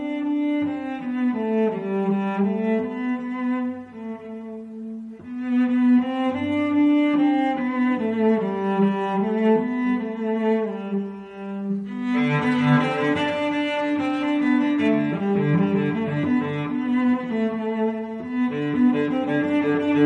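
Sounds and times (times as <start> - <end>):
slow music with held notes: 0.0 - 20.0.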